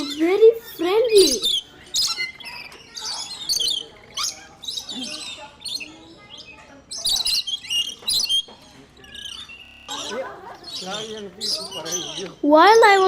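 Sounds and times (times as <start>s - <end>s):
parrots chattering shrilly: 0.0s - 12.4s.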